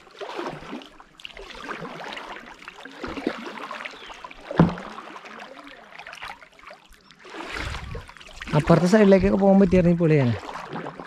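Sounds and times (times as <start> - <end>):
paddles splashing in water: 0.0 - 11.0.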